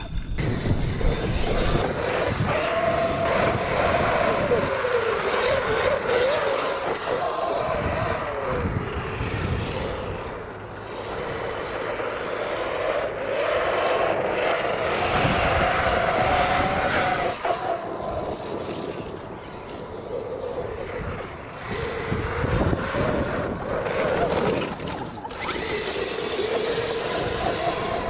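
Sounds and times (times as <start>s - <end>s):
electric motor whine: 0.2s - 28.0s.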